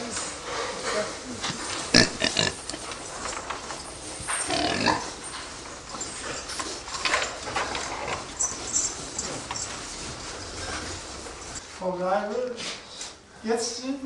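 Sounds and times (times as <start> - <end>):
pigs grunting and snuffling: 0.0 - 11.6.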